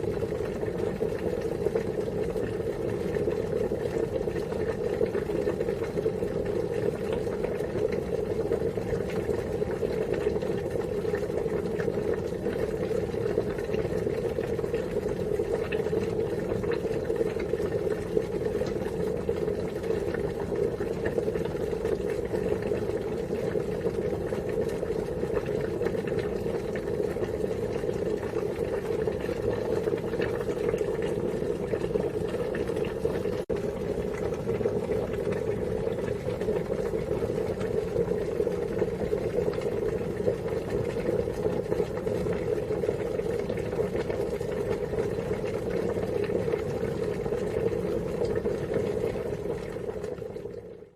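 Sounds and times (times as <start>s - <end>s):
water boiling: 0.0s - 50.9s.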